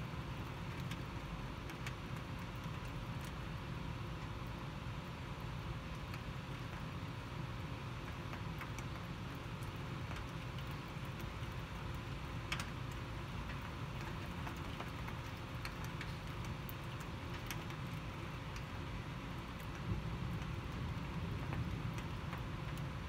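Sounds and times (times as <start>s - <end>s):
sharp drips ticking: 0.0s - 23.0s.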